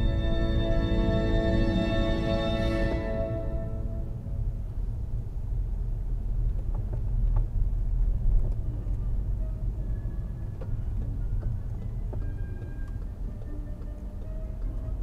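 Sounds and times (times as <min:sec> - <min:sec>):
car engine and tyre rumble inside: 0:00.0 - 0:15.0.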